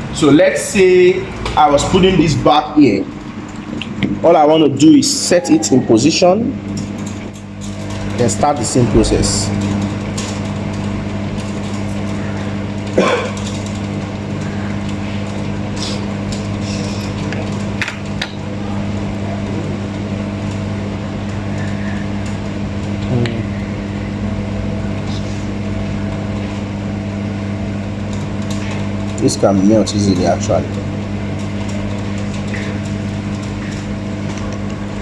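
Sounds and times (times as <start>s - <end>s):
hot air blower humming and hissing: 0.0s - 35.0s.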